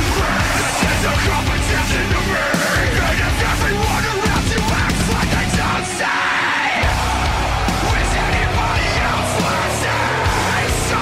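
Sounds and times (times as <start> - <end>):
background music with driving beat: 0.0 - 11.0.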